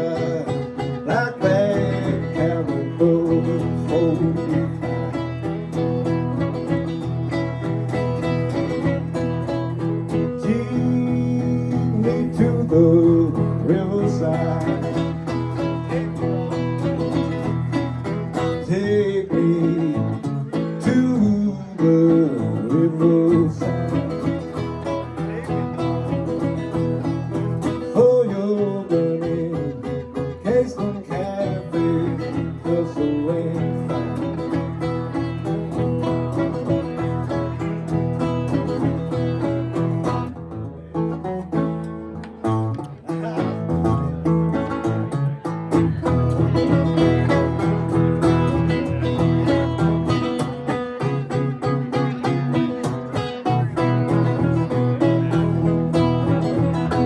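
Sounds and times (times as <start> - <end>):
acoustic blues guitar: 0.0 - 57.0.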